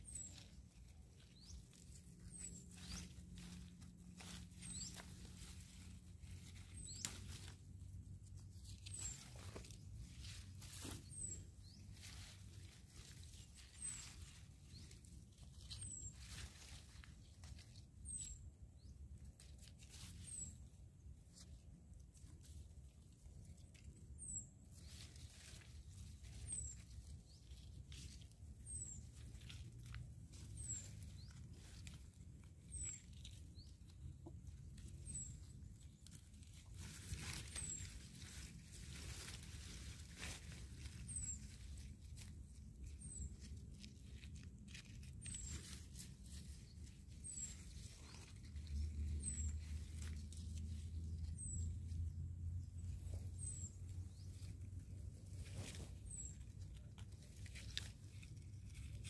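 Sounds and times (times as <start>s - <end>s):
leaves and stems rustling: 0.0s - 59.0s.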